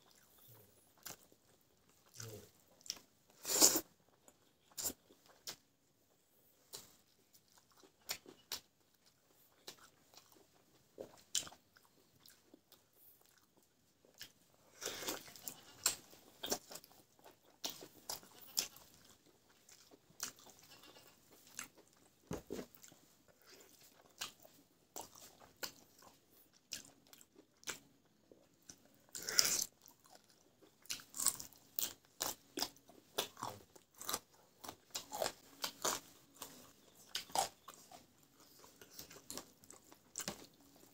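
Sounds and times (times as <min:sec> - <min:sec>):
person chewing and crunching: 0:00.0 - 0:01.3, 0:01.9 - 0:05.6, 0:06.7 - 0:40.9.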